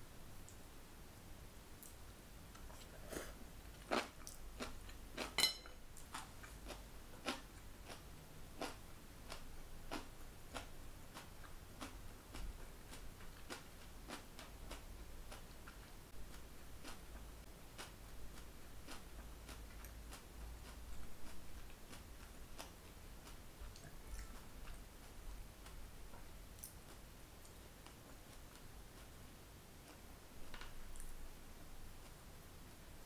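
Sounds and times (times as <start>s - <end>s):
person chewing: 1.8s - 29.2s.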